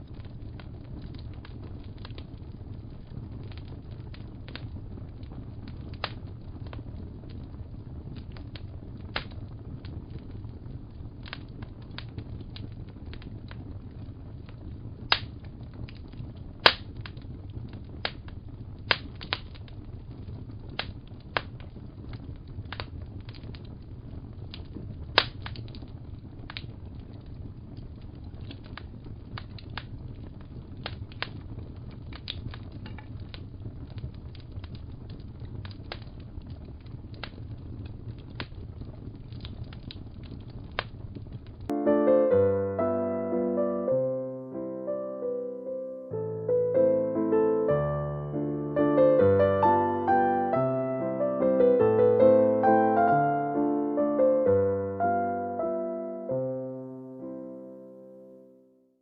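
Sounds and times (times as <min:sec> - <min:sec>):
wood fire crackling: 0:00.0 - 0:58.4.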